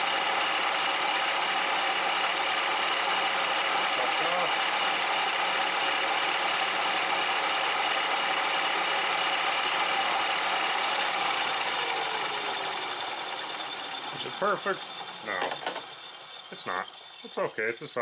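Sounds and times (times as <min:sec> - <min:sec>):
milling machine running: 0:00.0 - 0:18.0.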